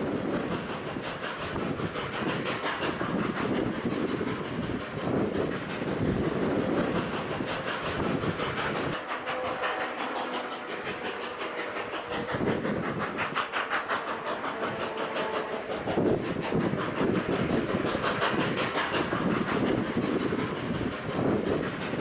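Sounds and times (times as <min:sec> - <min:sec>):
steam hiss: 0:00.0 - 0:22.0
steam locomotive chuffing: 0:00.0 - 0:22.0
train clatter: 0:00.0 - 0:22.0.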